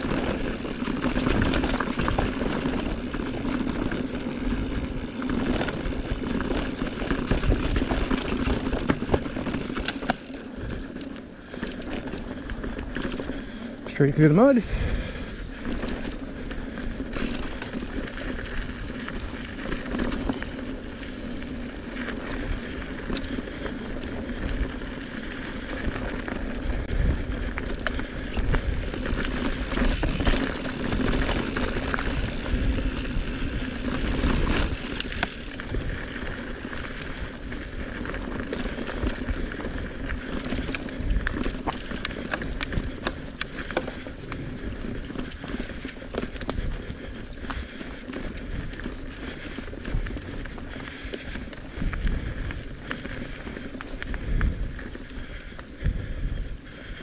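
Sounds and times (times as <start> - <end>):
bike rattling and clicking: 0.0 - 57.0
bike tyres on dirt trail: 0.0 - 57.0.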